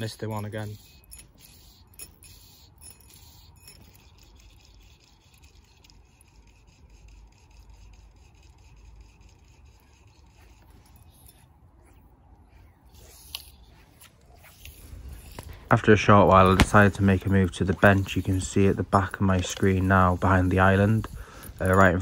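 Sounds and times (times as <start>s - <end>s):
fly line rubbing and scratching: 0.0s - 22.0s.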